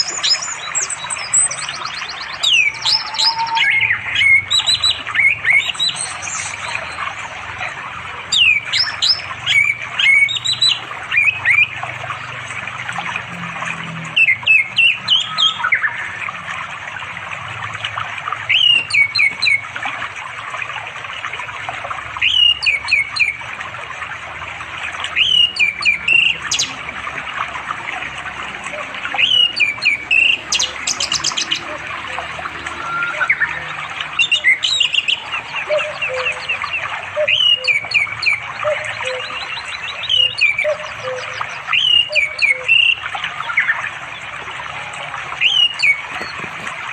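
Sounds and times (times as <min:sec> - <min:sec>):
forest stream rushing: 0:00.0 - 0:46.9.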